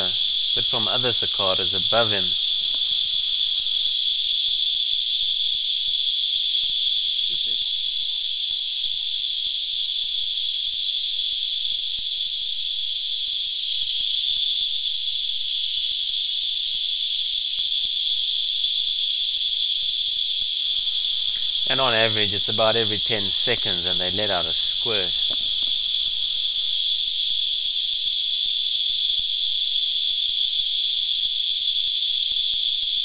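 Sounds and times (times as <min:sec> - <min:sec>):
cicadas singing: 0:00.0 - 0:33.0.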